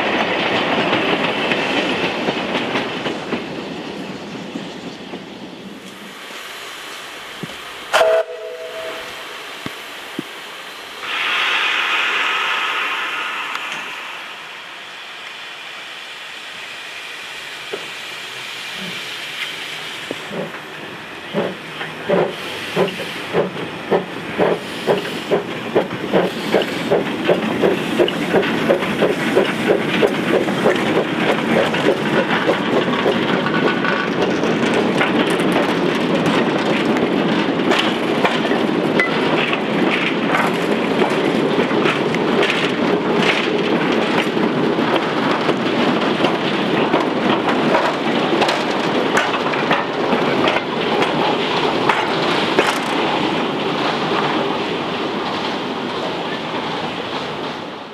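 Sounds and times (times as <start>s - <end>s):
steam locomotive exhaust beats: 5.8s - 54.5s.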